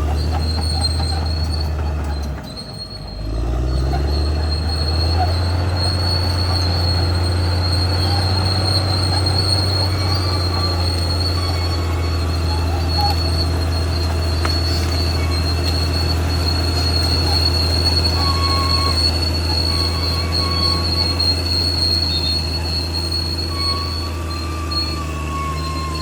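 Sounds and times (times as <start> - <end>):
bulldozer diesel engine running: 0.0 - 26.0
high-pitched metallic squeal: 0.0 - 26.0.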